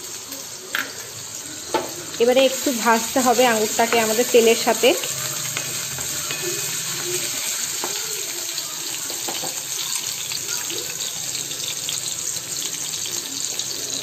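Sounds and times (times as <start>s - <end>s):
grapes sizzling in hot oil: 0.0s - 14.0s.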